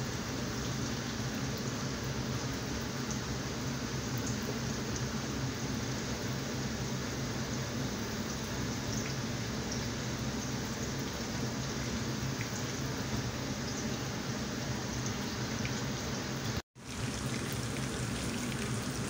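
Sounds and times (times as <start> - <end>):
oil sizzling and bubbling: 0.0 - 19.0.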